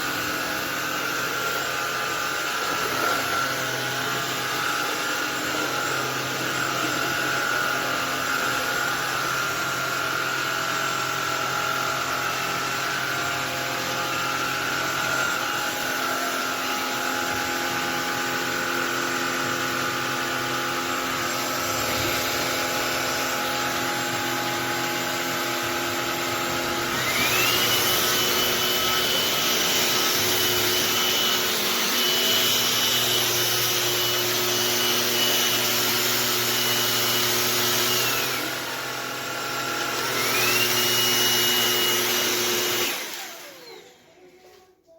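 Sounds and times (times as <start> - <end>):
stick vacuum cleaner running: 0.0 - 44.6.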